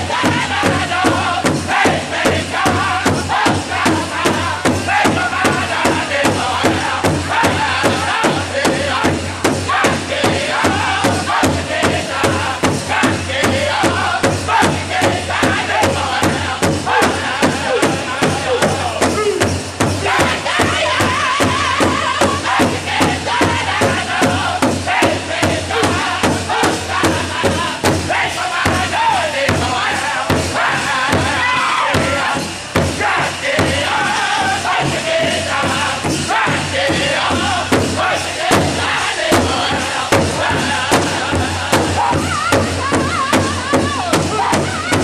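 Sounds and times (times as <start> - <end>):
large drum beat: 0.0 - 45.0
men singing in high voices: 0.0 - 45.0.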